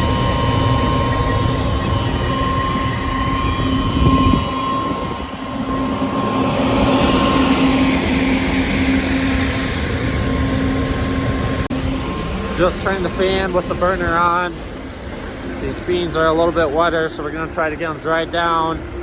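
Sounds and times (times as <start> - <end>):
fan hum: 0.0 - 19.0.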